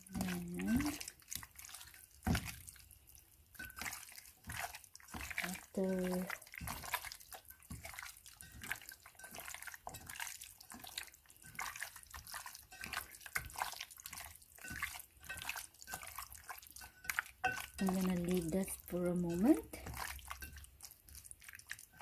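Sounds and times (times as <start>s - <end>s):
wet squishing of raw chicken: 0.0s - 22.0s.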